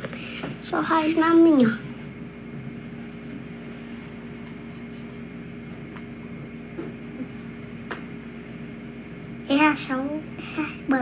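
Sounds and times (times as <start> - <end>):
appliance electrical hum: 0.0 - 11.0.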